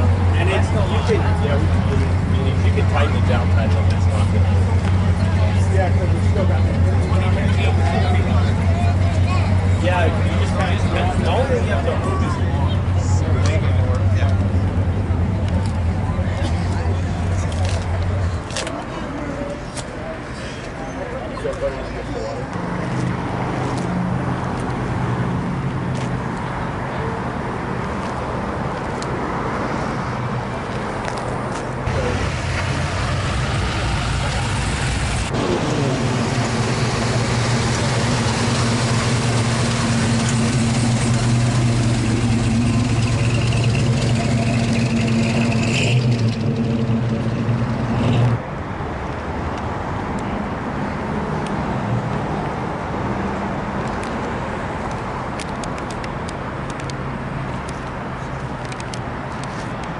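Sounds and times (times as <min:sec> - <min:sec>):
vehicle engines humming: 0:00.0 - 0:59.9.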